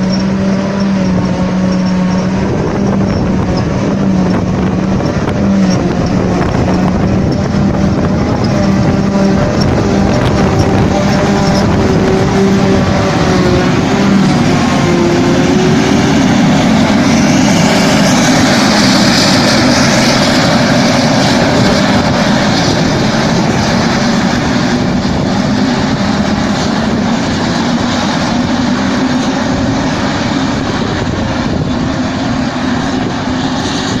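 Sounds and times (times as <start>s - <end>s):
tractor machine running: 0.0s - 34.0s.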